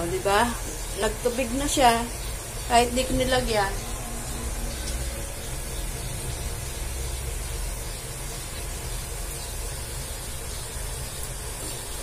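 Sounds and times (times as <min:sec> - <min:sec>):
low steady rumble: 0:00.0 - 0:10.0
food sizzling in a wok: 0:00.0 - 0:12.0.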